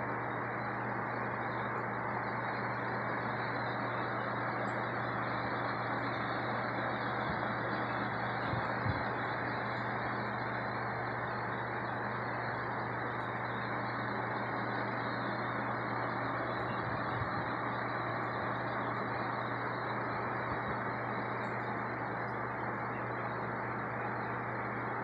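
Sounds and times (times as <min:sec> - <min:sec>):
aquarium pump humming and hissing: 0:00.0 - 0:25.0.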